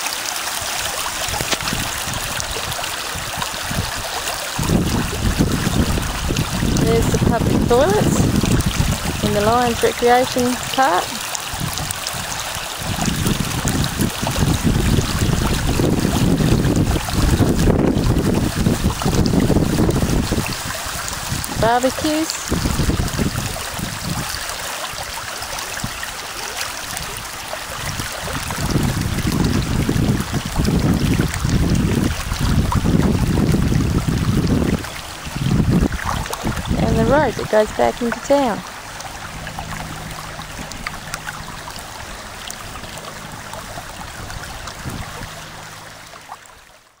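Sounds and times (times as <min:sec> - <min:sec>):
rushing floodwater: 0:00.0 - 0:47.0
small water splashes: 0:00.0 - 0:47.0
water flowing and trickling: 0:00.0 - 0:47.0
wind buffeting microphone: 0:00.7 - 0:46.1.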